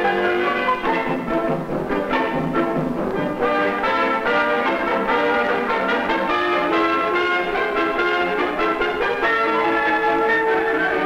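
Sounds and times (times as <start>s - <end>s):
orchestral music: 0.0s - 11.0s.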